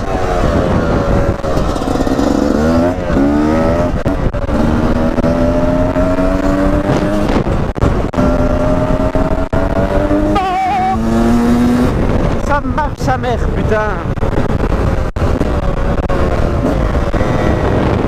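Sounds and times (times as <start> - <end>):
motorcycle engine revving: 0.0 - 12.6, 13.6 - 18.0.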